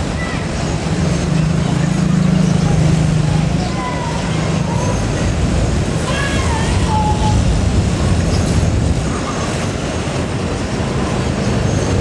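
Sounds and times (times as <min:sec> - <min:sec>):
train wagons rumbling on rails: 0:00.0 - 0:12.0.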